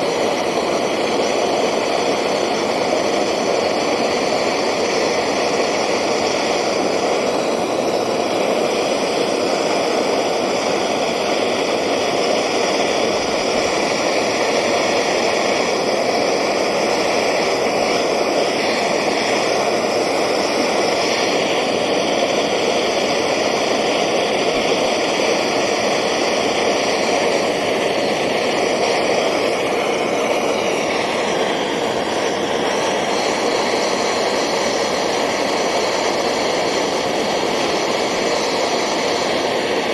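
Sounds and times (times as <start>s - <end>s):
gas torch burning: 0.0s - 39.9s.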